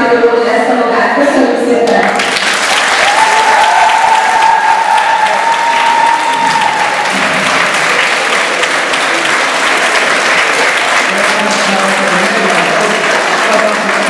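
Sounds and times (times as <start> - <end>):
crowd applauding: 1.9 - 14.0.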